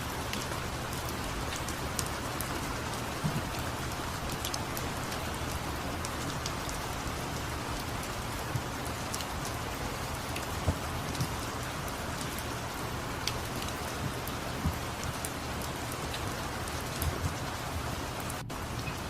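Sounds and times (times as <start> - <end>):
sharp water drips: 0.0 - 19.0
steady rain falling: 0.0 - 19.0.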